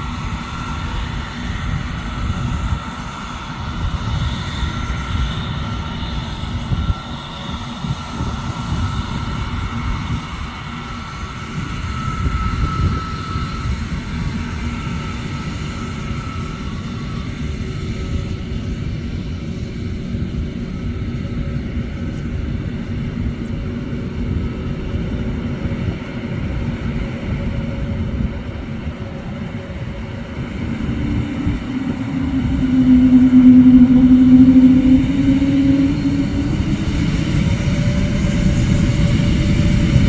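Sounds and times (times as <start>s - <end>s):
humming tone: 0.0s - 40.0s
jet engines rumbling: 0.0s - 40.0s.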